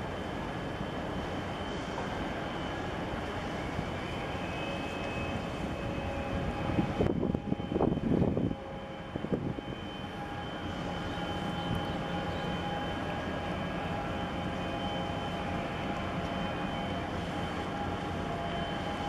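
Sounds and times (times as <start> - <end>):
ship low rumble: 0.0 - 19.0.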